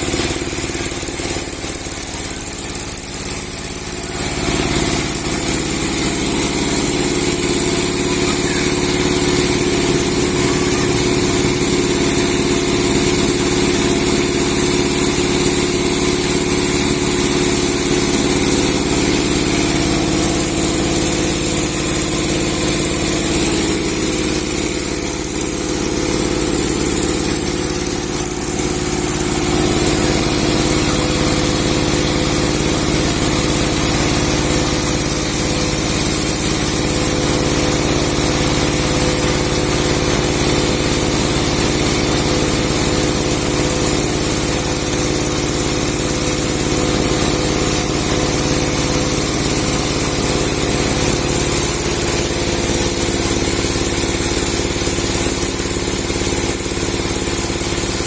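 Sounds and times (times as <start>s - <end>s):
sawing machine engine droning: 0.0s - 58.0s.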